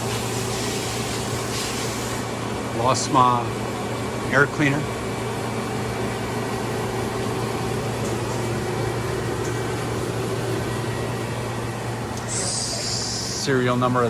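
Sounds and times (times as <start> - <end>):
machinery hum with held tones: 0.0 - 14.0.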